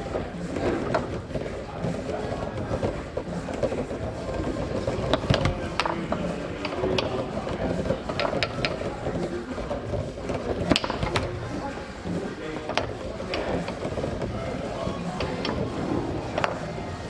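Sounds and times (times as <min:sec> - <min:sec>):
foosball ball clacking: 0:00.0 - 0:17.0
hall background hum: 0:00.0 - 0:17.0.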